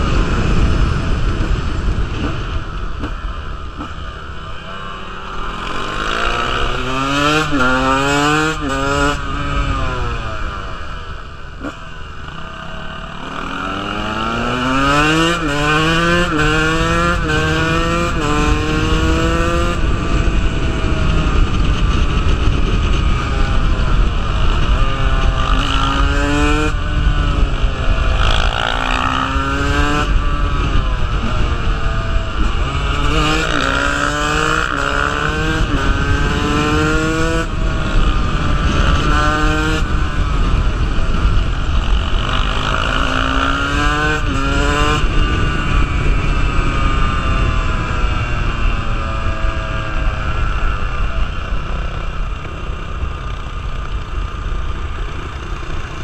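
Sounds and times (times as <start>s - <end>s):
dirt bike engine revving: 0.0s - 10.9s, 11.6s - 51.8s
wind rumble on microphone: 0.0s - 56.0s.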